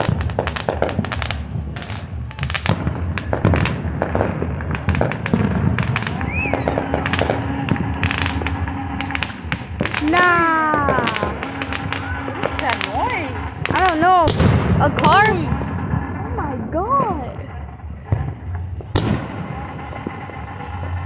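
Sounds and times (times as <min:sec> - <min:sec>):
firework whistle: 0:00.0 - 0:21.0
fireworks bangs and crackles: 0:00.0 - 0:21.0.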